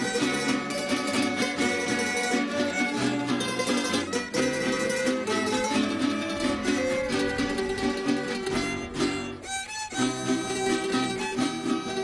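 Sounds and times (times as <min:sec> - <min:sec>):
plucked-string ensemble playing: 0:00.0 - 0:12.0.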